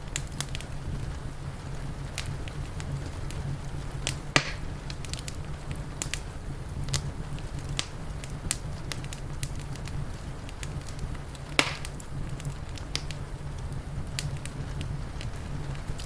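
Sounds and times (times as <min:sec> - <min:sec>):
low steady rumble: 0:00.0 - 0:16.0
sharp pops of fire: 0:00.0 - 0:16.0
wood fire crackling: 0:00.0 - 0:16.0.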